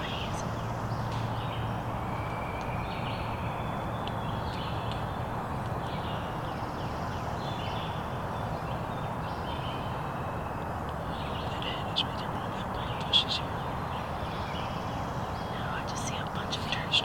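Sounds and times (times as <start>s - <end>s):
rushing background noise: 0.0s - 17.0s
small birds chirping: 0.0s - 17.0s.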